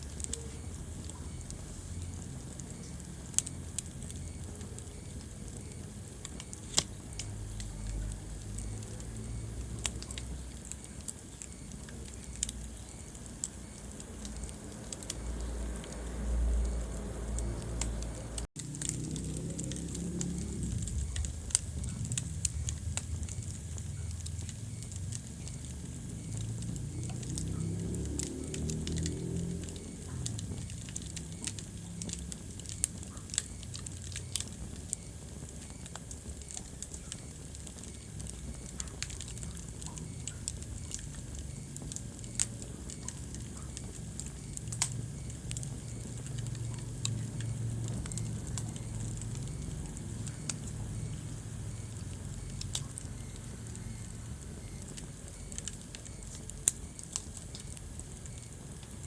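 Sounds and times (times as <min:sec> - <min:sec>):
wood fire crackling in fireplace: 0:00.0 - 0:59.0.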